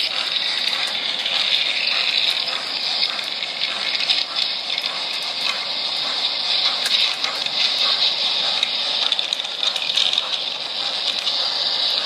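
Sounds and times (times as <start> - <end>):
model trains rolling on track: 0.0 - 12.0.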